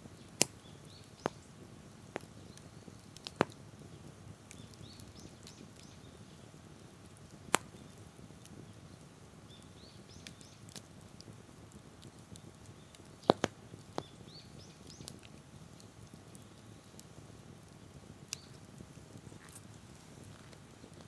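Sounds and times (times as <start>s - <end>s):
campfire crackling and popping: 0.0s - 21.0s
low steady hiss: 0.0s - 21.0s.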